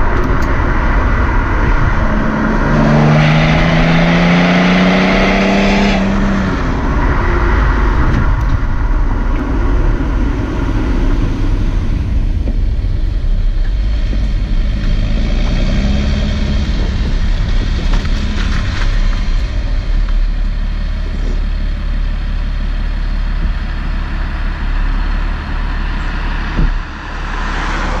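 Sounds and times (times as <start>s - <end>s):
diesel engine exhaust idling: 0.0s - 28.0s.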